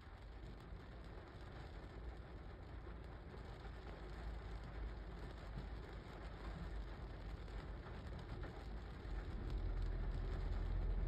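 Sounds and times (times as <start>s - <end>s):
rain on car windshield and roof: 0.0s - 11.0s.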